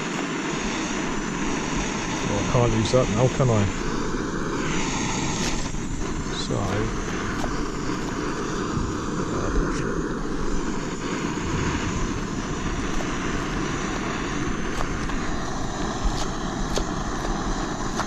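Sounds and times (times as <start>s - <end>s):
camping stove burner roaring: 0.0s - 18.0s.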